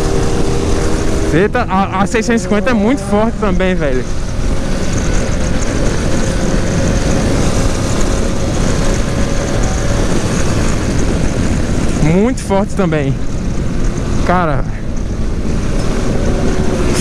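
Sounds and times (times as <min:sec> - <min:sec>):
motorcycle engine: 0:00.0 - 0:17.0
wind and road noise: 0:00.0 - 0:17.0.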